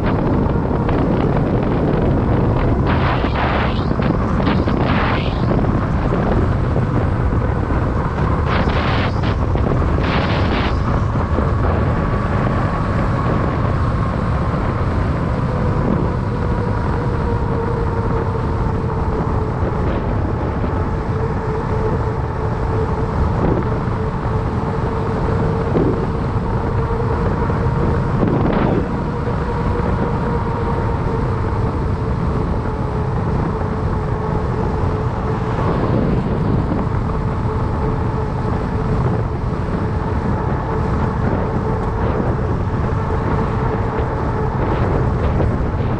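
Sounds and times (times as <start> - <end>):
tyres humming on asphalt: 0.0 - 45.9
wind rushing over microphone: 0.0 - 45.9.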